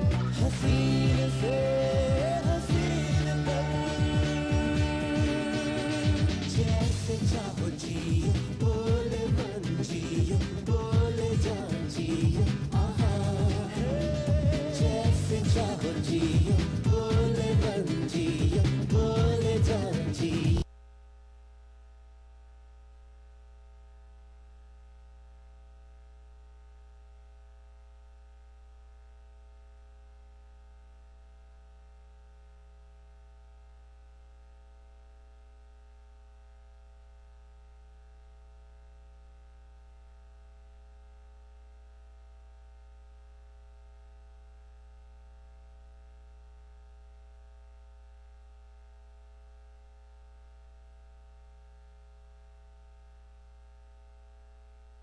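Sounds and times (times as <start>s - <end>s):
buzzy electrical mains hum: 0.0s - 55.0s.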